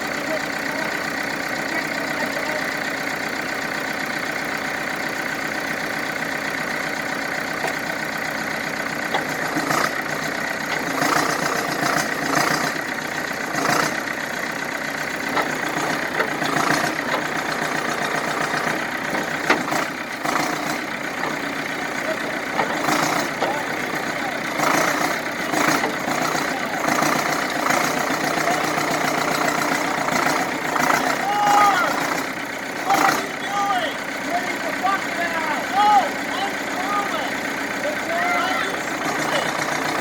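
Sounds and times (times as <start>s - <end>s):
heavy equipment engine running: 0.0s - 40.0s.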